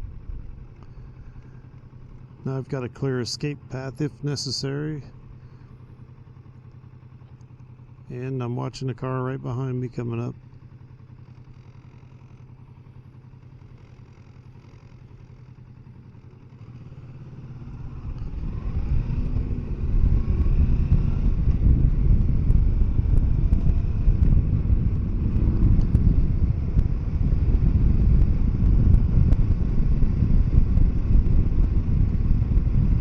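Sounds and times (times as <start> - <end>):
wind and road noise: 0.0 - 8.2, 9.8 - 33.0
motorcycle engine running: 0.0 - 33.0.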